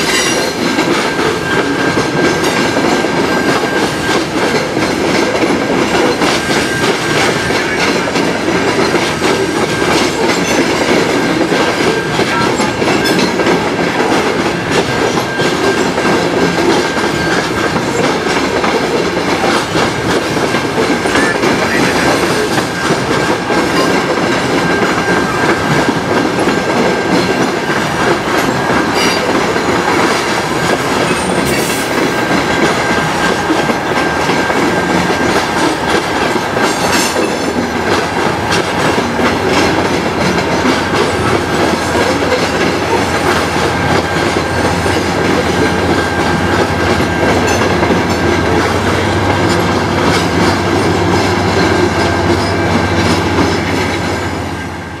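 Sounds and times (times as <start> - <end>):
train wheels clattering over rail joints: 0.0 - 54.3
diesel locomotive drone: 0.0 - 55.0.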